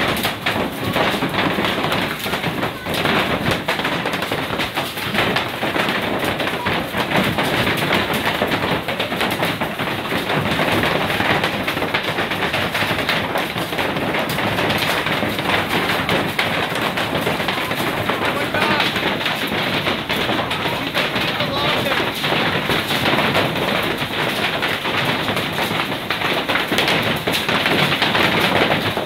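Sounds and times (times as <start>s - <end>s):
hailstones pelting down: 0.0s - 29.0s.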